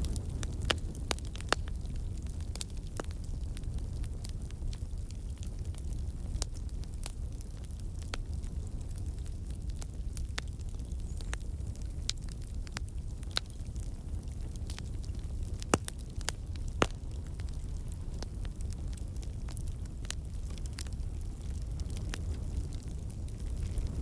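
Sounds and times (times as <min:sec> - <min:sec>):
campfire flame rumble: 0:00.0 - 0:24.0
logs crackling and popping: 0:00.0 - 0:24.0.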